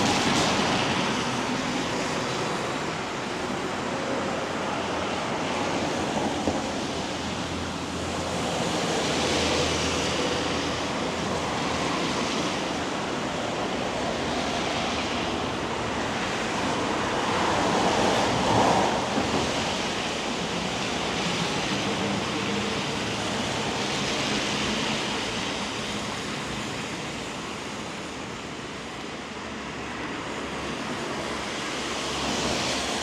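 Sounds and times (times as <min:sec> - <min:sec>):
light rain on wet street: 0:00.0 - 0:33.0.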